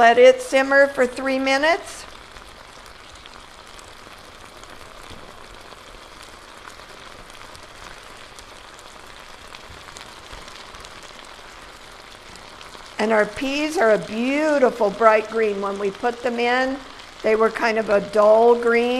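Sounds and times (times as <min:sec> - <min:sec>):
food sizzling in skillet: 0:00.0 - 0:18.9.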